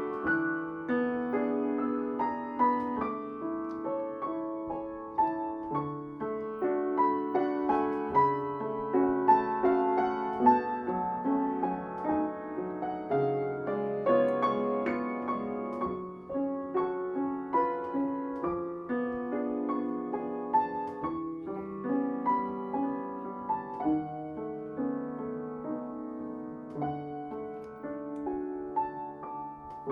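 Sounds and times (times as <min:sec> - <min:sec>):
soft piano music: 0:00.0 - 0:29.9.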